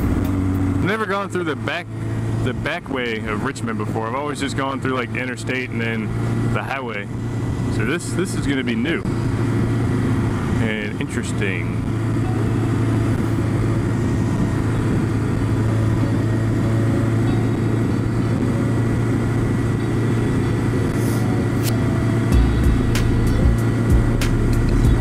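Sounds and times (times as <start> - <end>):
motorcycle engine cruising: 0.0 - 25.0
wind and road noise: 0.0 - 25.0.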